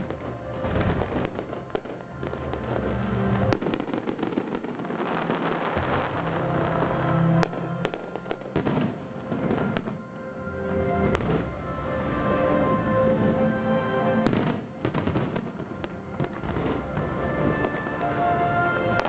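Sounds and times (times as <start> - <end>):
fireworks bangs: 0.0 - 19.0
fireworks crackling and popping: 0.0 - 19.0
music with sustained tones: 0.0 - 19.0.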